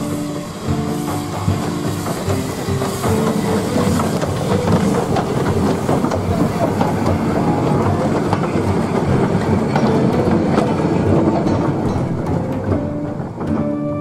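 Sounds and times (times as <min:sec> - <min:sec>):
steam locomotive passing: 0:00.0 - 0:14.0
train wheels clattering: 0:00.0 - 0:14.0.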